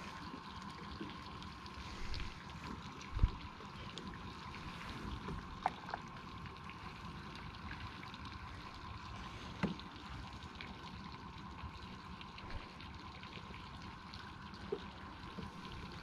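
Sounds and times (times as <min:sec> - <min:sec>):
faint steady hum: 0:00.0 - 0:16.0
water lapping against kayak hull: 0:00.0 - 0:16.0.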